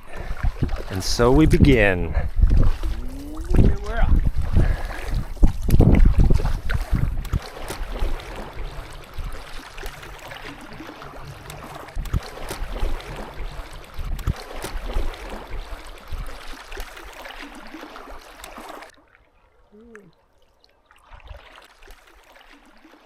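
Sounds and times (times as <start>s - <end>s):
water splashing around paddles: 0.0s - 23.0s.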